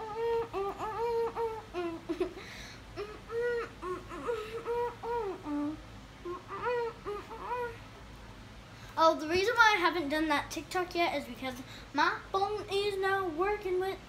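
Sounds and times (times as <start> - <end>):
girl vocalising wordless tune: 0.0 - 7.9, 8.8 - 14.0.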